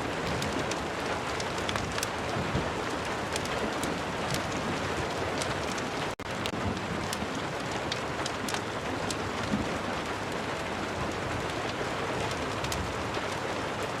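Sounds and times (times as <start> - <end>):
fire crackling: 0.0 - 14.0
steady rain: 0.0 - 14.0.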